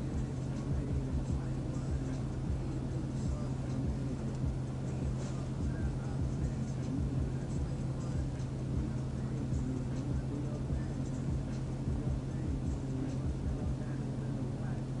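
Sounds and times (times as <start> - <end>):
car engine idling hum: 0.0 - 15.0.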